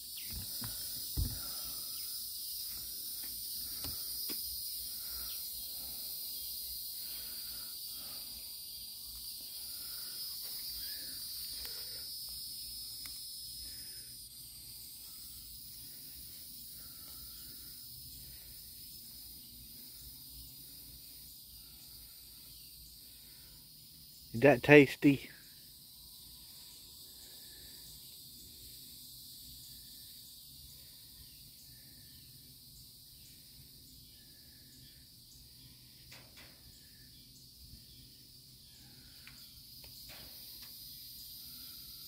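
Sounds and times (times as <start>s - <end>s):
insect chorus drone: 0.0s - 42.0s.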